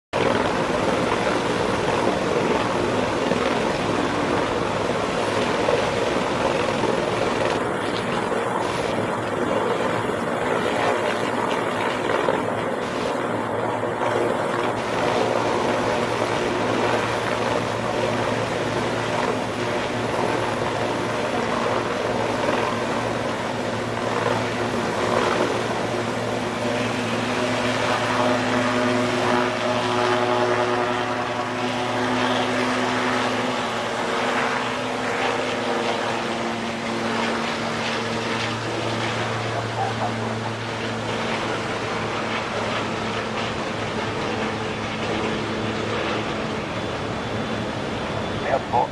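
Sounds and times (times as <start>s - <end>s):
helicopter engine and rotor: 0.1s - 48.9s.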